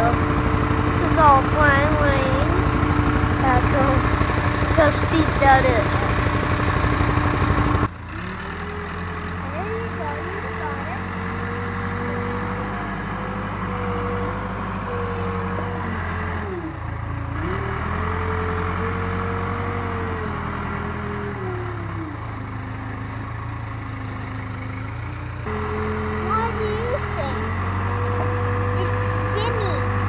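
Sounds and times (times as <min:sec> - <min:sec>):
backhoe diesel engine running: 0:00.0 - 0:30.0.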